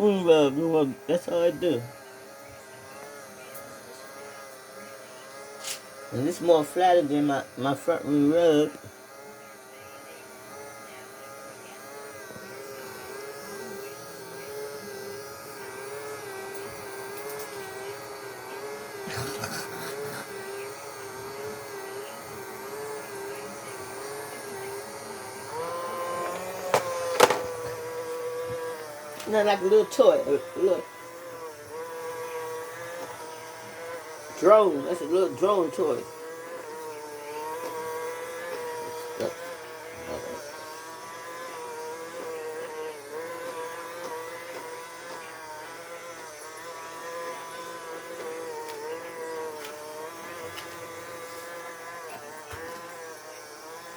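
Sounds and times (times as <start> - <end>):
robot vacuum motor whine: 0.0 - 53.9.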